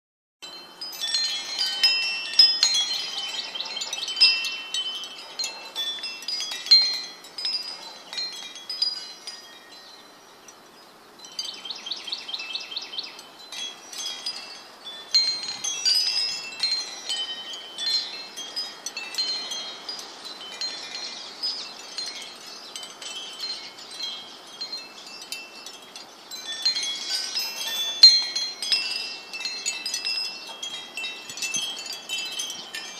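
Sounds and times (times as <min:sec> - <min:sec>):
wind chimes ringing: 0:00.4 - 0:32.9.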